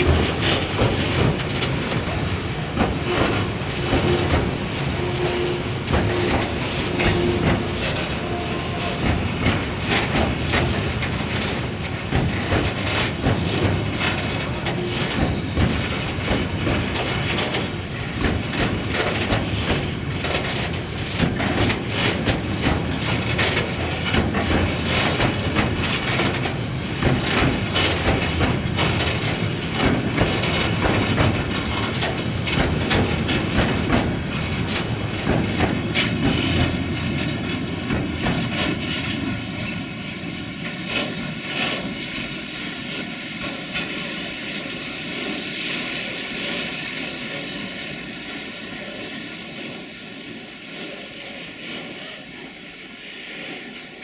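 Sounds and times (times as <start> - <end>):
train wheels clattering over rail joints: 0.0 - 52.2.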